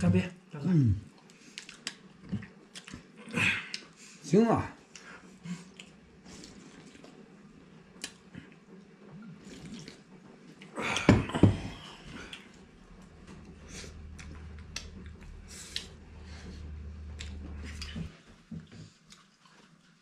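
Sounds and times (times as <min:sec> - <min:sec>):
faint low hum: 0:00.0 - 0:19.8.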